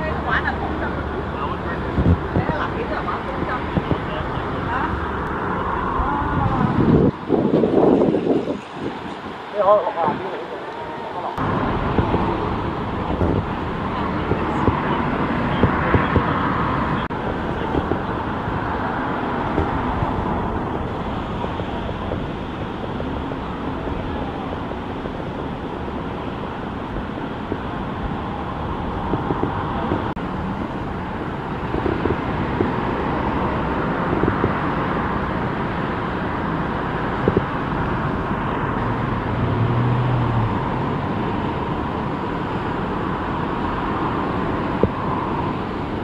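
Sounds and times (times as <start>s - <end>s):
outdoor ambience roar: 0.0s - 46.0s.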